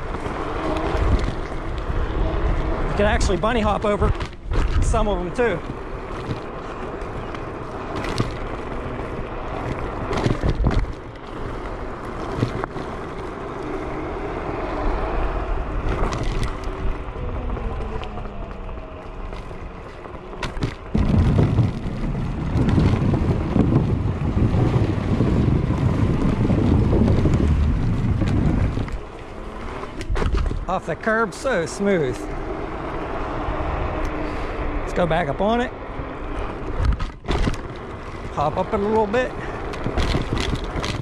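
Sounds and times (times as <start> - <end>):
scooter tyre noise: 0.0 - 41.0
wind buffeting microphone: 0.0 - 41.0.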